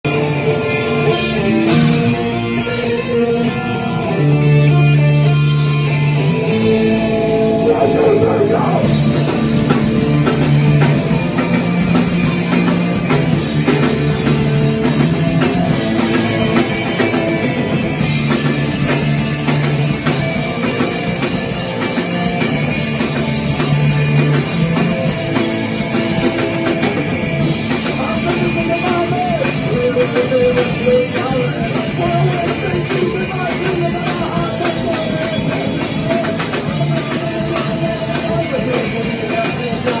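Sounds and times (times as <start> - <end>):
electric guitar: 0.0 - 40.0
rock band playing: 0.0 - 40.0.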